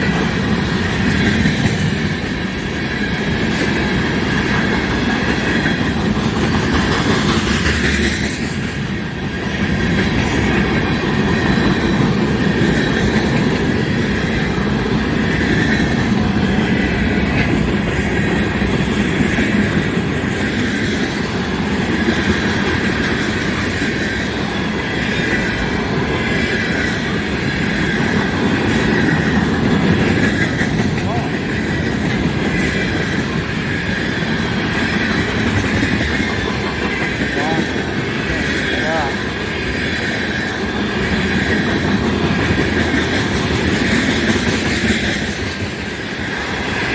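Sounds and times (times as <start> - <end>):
clickety-clack over rail joints: 0.0 - 46.9
train wheels rumbling on track: 0.0 - 46.9.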